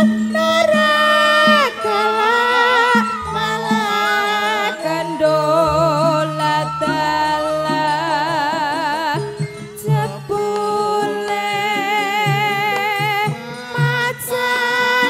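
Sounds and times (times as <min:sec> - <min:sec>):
woman singing with vibrato: 0:00.0 - 0:15.0.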